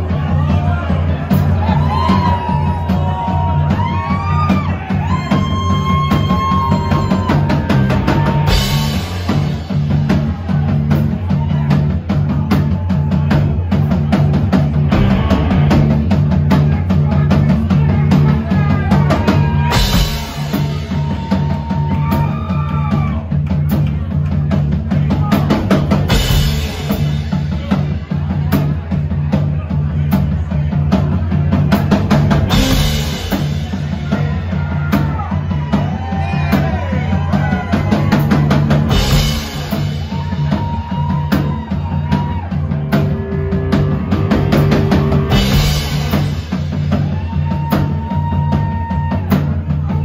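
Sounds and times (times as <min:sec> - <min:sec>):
drum kit playing: 0:00.0 - 0:50.0
heavy bass: 0:00.0 - 0:50.0.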